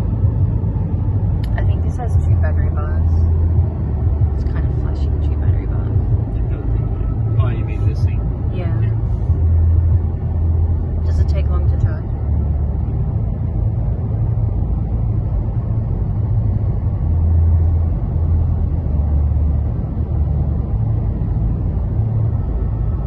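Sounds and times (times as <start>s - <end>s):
low hum: 0.0s - 23.0s
road and engine rumble in car: 0.0s - 23.0s.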